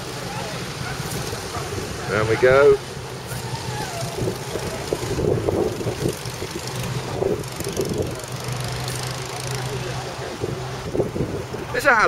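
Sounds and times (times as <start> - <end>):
go-kart engines running: 0.0 - 12.0.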